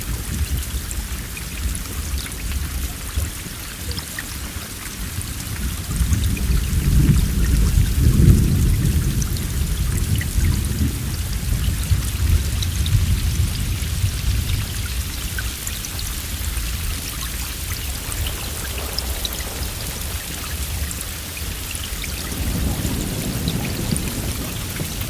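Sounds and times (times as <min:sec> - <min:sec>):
heavy rain hissing: 0:00.0 - 0:25.0
low roll of thunder: 0:00.0 - 0:25.0.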